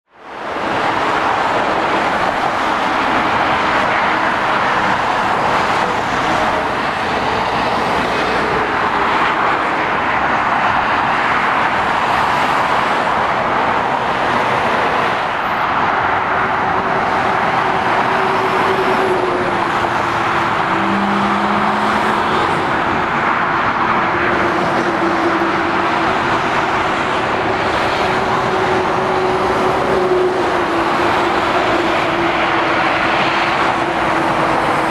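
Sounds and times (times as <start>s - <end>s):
traffic tyre noise: 0.1s - 34.9s.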